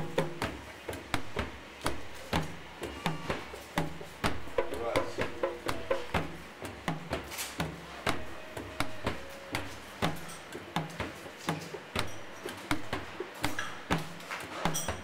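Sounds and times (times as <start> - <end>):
percussive music: 0.0 - 15.0.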